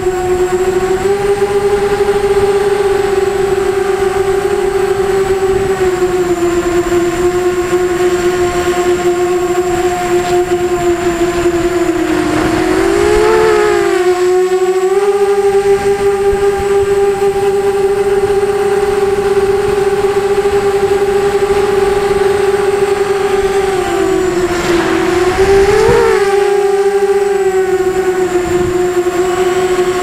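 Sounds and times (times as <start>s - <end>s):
drone motors whining: 0.0s - 30.0s
rush of wind: 0.0s - 30.0s.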